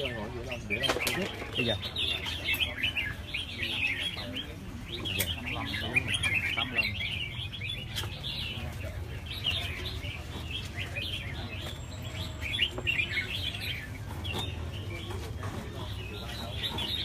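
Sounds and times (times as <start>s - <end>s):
birds singing and chirping: 0.0s - 17.0s.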